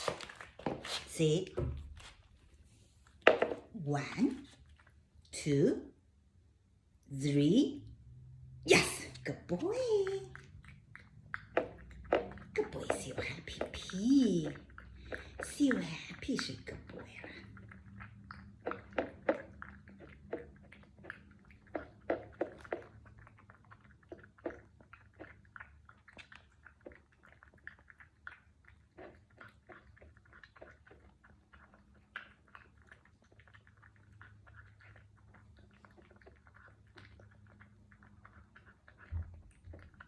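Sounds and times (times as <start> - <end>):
pet crunching food: 0.0 - 5.2, 8.8 - 40.0.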